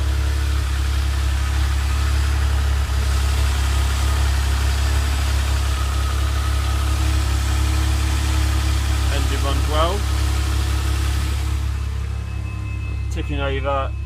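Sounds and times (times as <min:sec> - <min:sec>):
car engine idling fast: 0:00.0 - 0:14.0.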